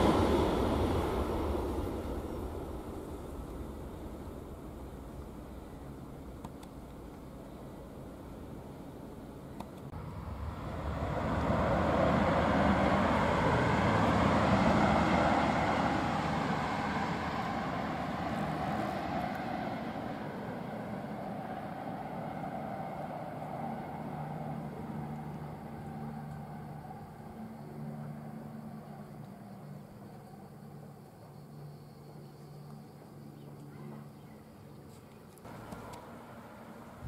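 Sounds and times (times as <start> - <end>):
high-speed train passing: 0.0 - 33.3, 35.5 - 37.0.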